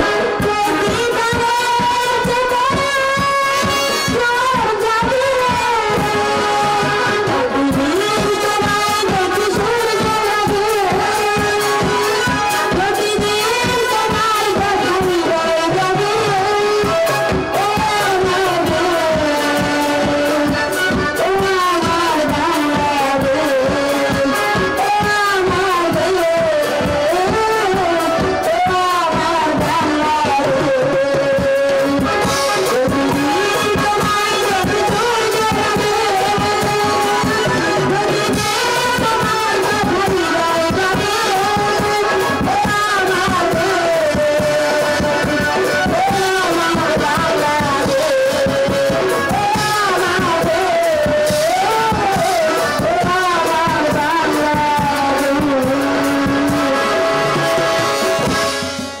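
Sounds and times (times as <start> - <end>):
women singing: 0.0 - 57.0
accompanying instruments: 0.0 - 59.0
steady drum rhythm: 0.0 - 59.0.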